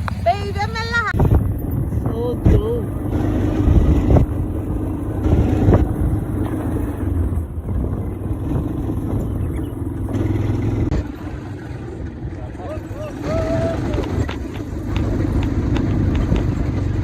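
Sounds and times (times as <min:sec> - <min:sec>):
quad bike engine running: 0:00.0 - 0:17.0
wind on microphone: 0:00.0 - 0:17.0.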